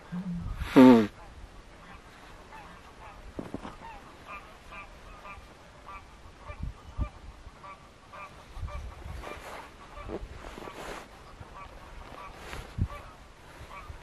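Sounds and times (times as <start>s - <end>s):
geese honking: 1.2s - 14.0s.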